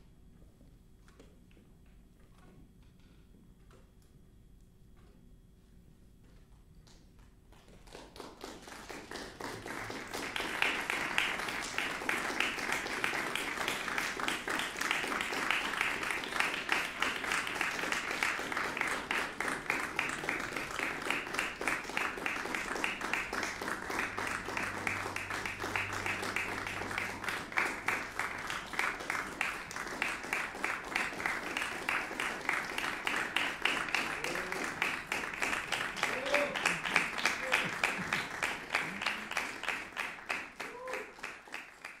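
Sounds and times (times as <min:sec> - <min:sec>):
audience applauding: 0:07.5 - 0:42.0.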